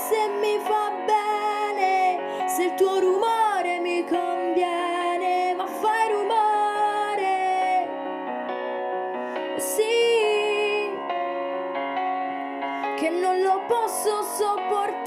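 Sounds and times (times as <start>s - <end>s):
woman singing a ballad: 0.0s - 8.2s, 9.4s - 11.2s, 12.8s - 15.0s
soft instrumental accompaniment: 0.0s - 15.0s.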